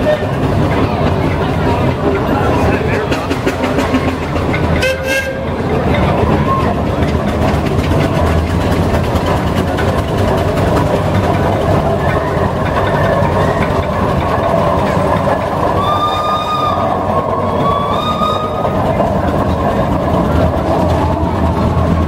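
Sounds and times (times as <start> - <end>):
steam roller engine running: 0.0 - 22.0.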